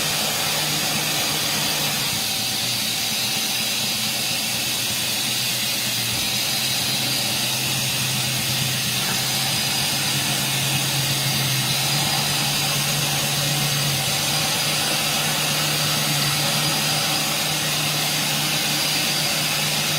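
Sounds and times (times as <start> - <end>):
lathe humming: 0.0 - 19.9.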